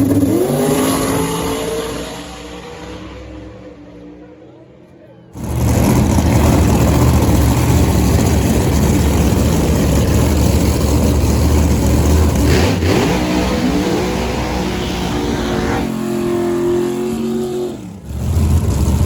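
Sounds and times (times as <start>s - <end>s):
racing car engine at full throttle: 0.0s - 19.0s.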